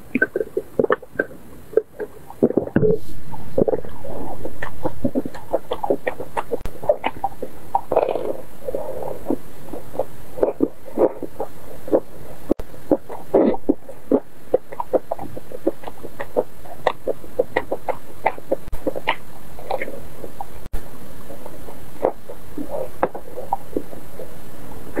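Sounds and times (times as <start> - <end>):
chewing and lip smacking: 0.1 - 24.3.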